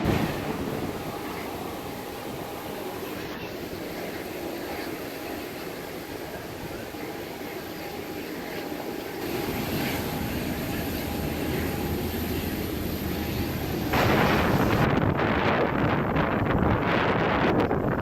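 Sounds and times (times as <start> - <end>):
jet airliner rushing noise: 0.0 - 7.4, 8.6 - 17.0
faint constant whine: 0.0 - 18.0.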